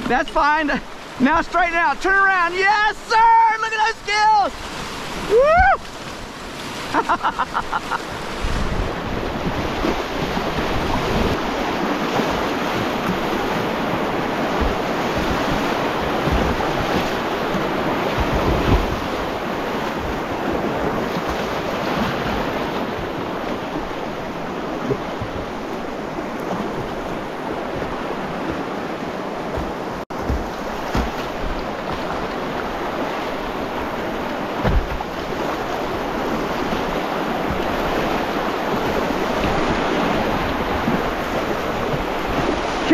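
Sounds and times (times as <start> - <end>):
rushing river water: 0.0 - 42.9
wind buffeting microphone: 8.1 - 42.9.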